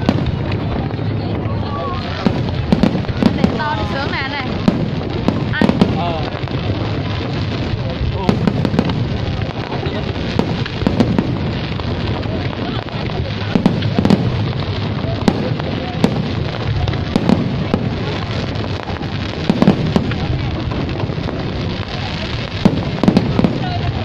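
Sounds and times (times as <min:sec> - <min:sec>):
crowd chatter: 0:00.0 - 0:24.0
fireworks bursting: 0:00.0 - 0:24.0.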